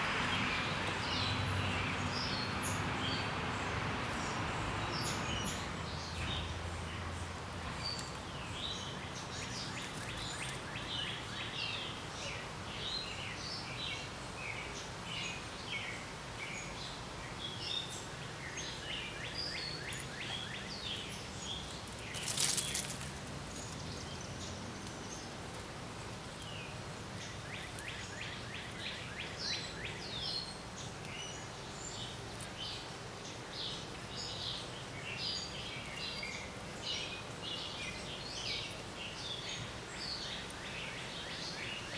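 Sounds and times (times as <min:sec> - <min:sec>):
outdoor background noise: 0:00.0 - 0:41.9
rustle: 0:00.0 - 0:41.9
songbirds chirping and singing: 0:00.0 - 0:41.9.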